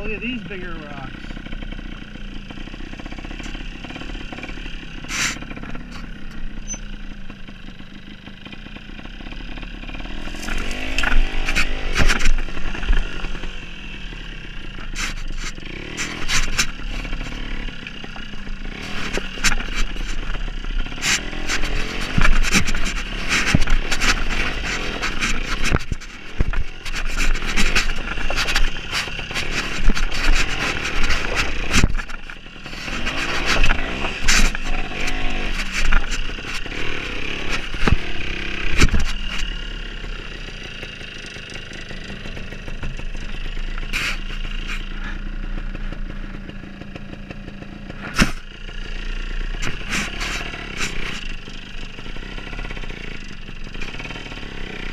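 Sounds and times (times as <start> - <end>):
motorcycle engine throttle blips: 0.0 - 54.9.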